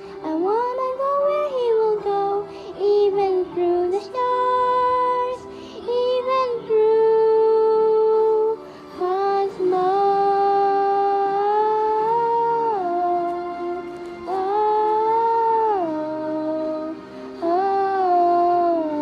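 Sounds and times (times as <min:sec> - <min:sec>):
girl singing slow melody: 0:00.0 - 0:19.0.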